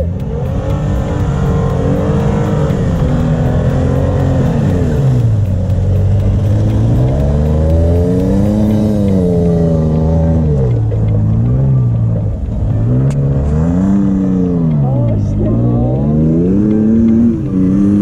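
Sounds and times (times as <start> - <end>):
pickup truck engine revving: 0.0 - 18.0.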